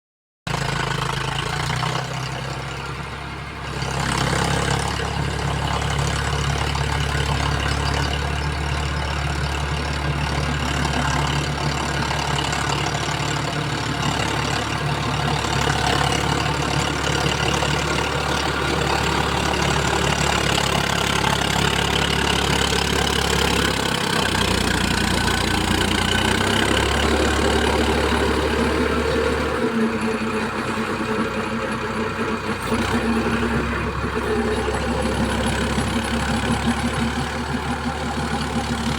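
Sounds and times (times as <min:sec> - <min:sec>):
tractor diesel engine running: 0:00.5 - 0:38.9.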